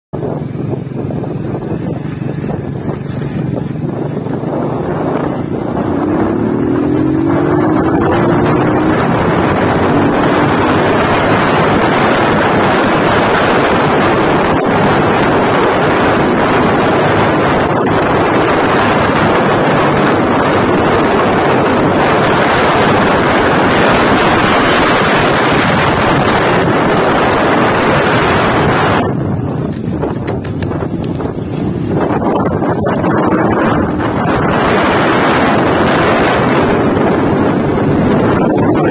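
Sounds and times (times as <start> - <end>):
motorcycle engine accelerating: 0.1 - 38.9
wind rush on microphone: 0.1 - 38.9.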